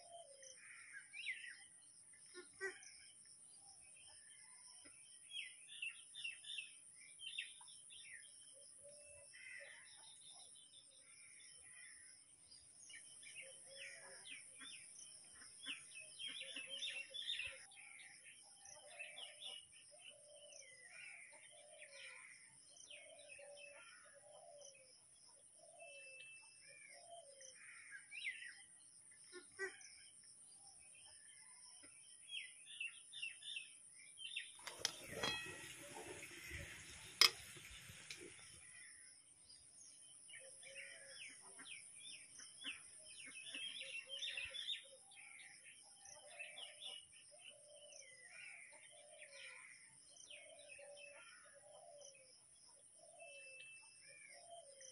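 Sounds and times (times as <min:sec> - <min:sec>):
lower repeated bird calls: 0:00.0 - 0:12.3, 0:12.9 - 0:54.9
small birds chirping: 0:01.2 - 0:54.9.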